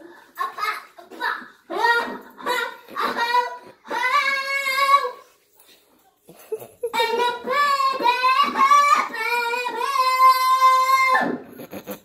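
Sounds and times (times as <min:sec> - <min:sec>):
child singing into toy microphone: 0:00.1 - 0:05.4, 0:06.9 - 0:11.6.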